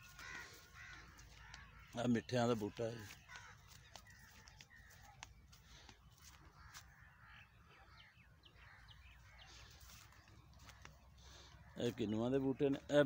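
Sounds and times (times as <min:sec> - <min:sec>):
bird chirps: 0:00.0 - 0:13.0
faint rural ambience: 0:00.0 - 0:13.0.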